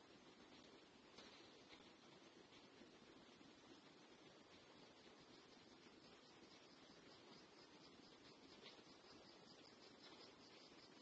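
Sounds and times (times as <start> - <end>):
faint steady background hiss: 0.0 - 11.0.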